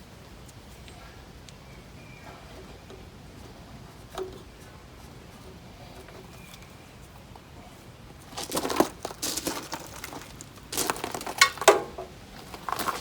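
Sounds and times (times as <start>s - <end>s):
things rustling and clattering: 2.2s - 13.0s.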